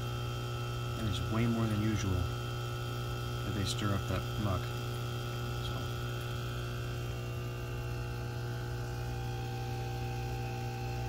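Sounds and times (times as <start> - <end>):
low electric hum: 0.0 - 11.0.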